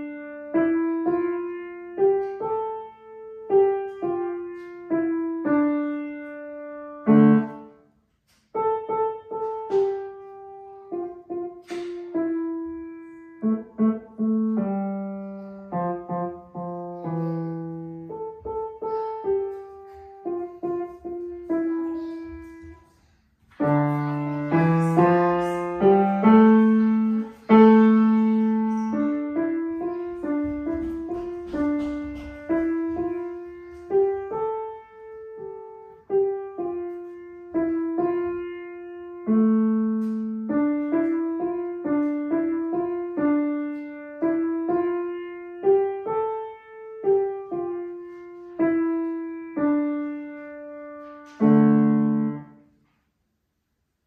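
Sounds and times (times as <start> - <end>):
solo grand piano: 0.0 - 54.0.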